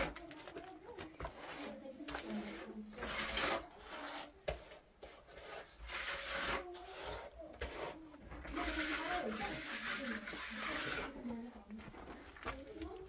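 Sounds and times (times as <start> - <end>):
scraping strokes: 0.0 - 13.0.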